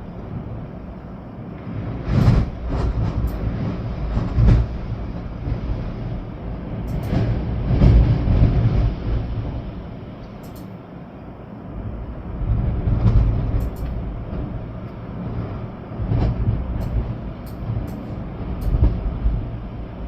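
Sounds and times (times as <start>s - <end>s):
wind buffeting microphone: 0.0s - 10.6s, 11.7s - 20.0s.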